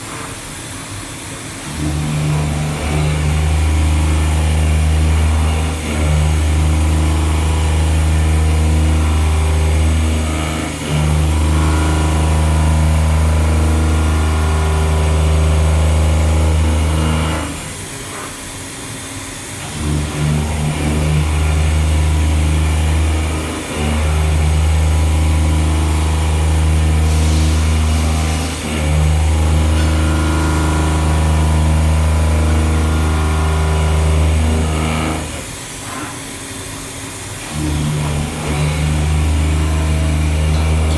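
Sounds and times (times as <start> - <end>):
milling machine hum: 0.0 - 40.9.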